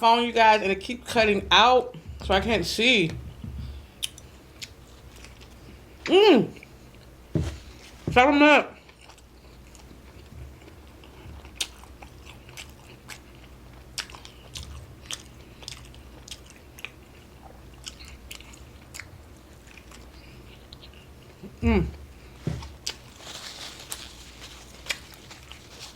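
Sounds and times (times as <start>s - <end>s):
faint low hum: 0.0s - 25.9s
chewing food: 3.3s - 7.1s, 8.8s - 25.9s.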